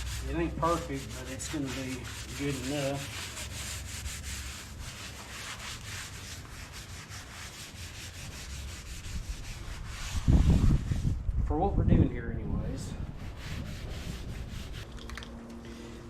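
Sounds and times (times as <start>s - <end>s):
hand sanding metal: 0.0s - 11.1s, 13.0s - 14.9s.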